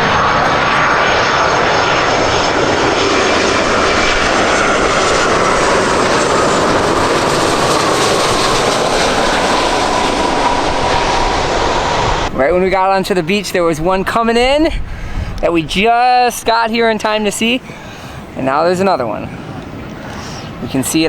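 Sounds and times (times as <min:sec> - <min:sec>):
jet airliner engine whine: 0:00.0 - 0:21.0.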